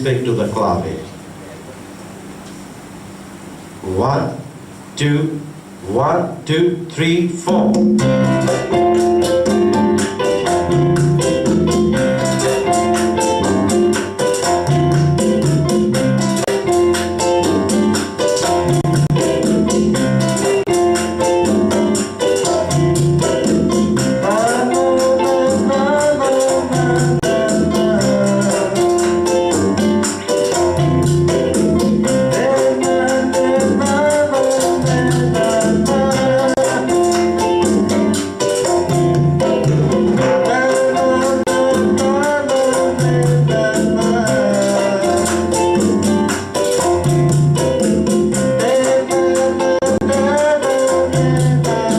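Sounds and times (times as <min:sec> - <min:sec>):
piano montuno: 0:00.0 - 0:51.9
bass line: 0:05.3 - 0:51.9
guitar: 0:06.8 - 0:51.9
shaken hand percussion: 0:06.8 - 0:51.9
latin band playing: 0:07.2 - 0:51.9.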